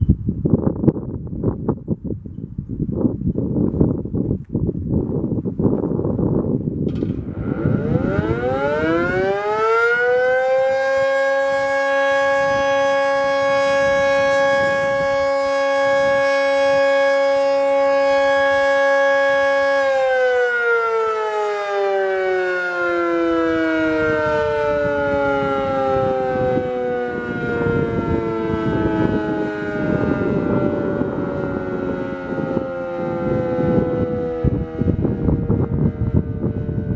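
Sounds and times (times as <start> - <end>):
warning siren wailing: 6.9 - 36.9.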